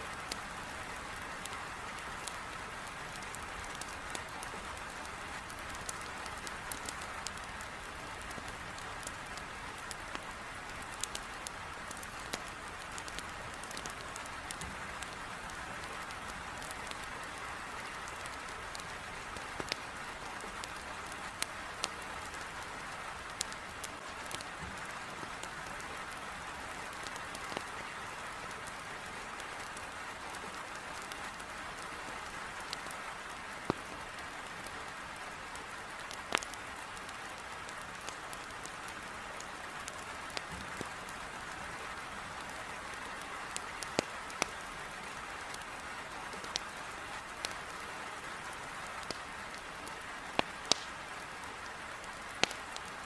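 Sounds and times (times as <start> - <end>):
heavy rain on a window: 0.0 - 53.0
wood fire crackling: 0.0 - 53.0.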